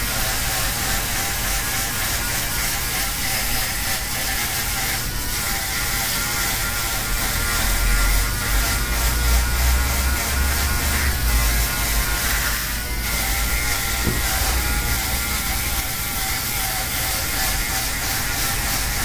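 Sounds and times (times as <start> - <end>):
electric shaver buzzing: 0.0 - 19.0.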